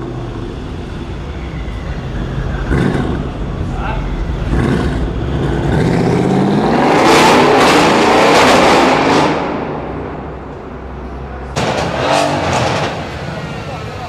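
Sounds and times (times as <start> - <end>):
car accelerating with loud exhaust: 0.0 - 14.0.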